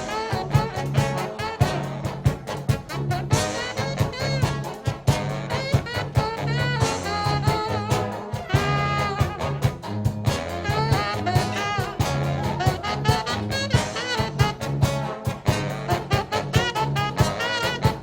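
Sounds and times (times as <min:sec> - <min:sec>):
brass band playing: 0:00.0 - 0:18.0
drum hits: 0:00.0 - 0:18.0
tuba bass notes: 0:00.0 - 0:18.0.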